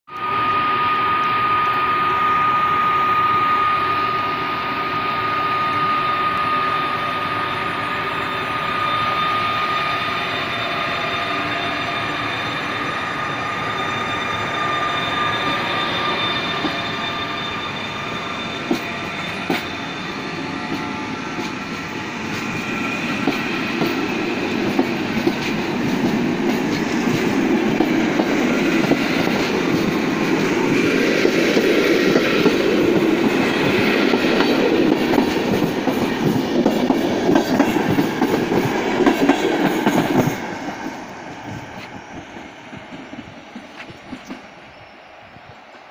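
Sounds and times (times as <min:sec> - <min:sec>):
passenger train rolling past: 0:00.1 - 0:45.9.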